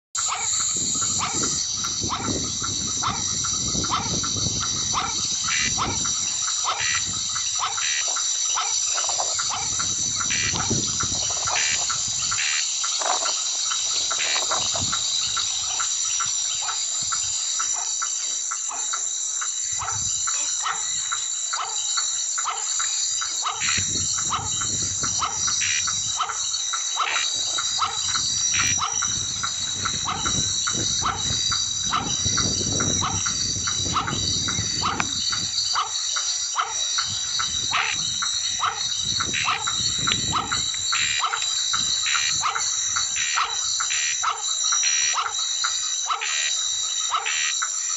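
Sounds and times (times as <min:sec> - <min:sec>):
frogs croaking: 0:00.2 - 0:47.9
high-pitched insect trill: 0:00.2 - 0:47.9.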